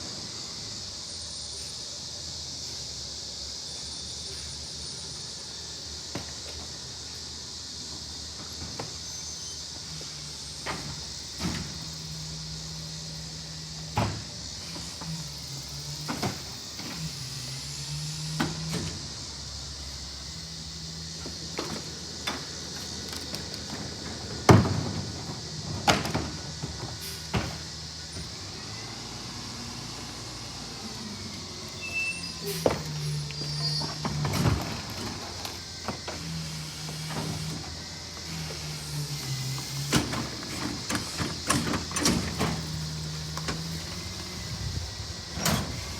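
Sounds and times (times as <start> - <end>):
garbage truck engine hum: 0.0 - 45.9.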